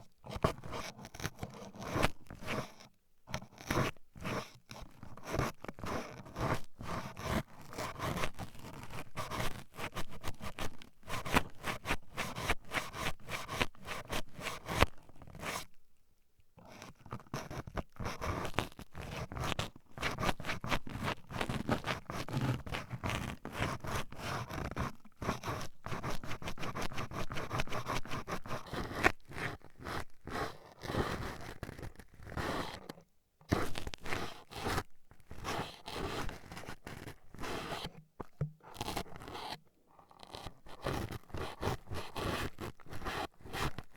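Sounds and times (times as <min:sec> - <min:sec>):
toothpicks scratching a microphone: 0:00.2 - 0:15.7, 0:16.6 - 0:43.9.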